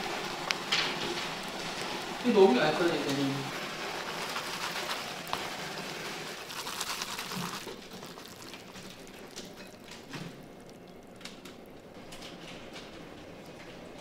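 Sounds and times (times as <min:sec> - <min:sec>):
chopsticks stirring sticky noodles: 0:00.0 - 0:11.8.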